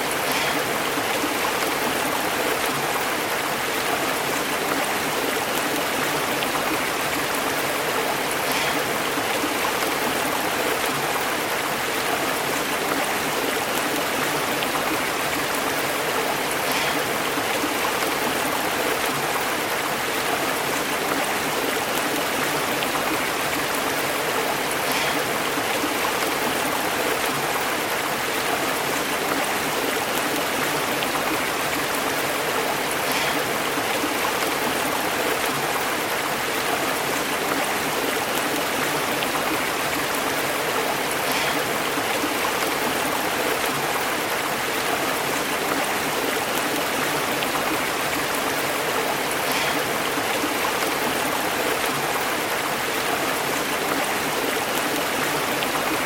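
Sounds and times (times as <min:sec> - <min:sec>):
stream burbling over rocks: 0:00.0 - 0:56.0.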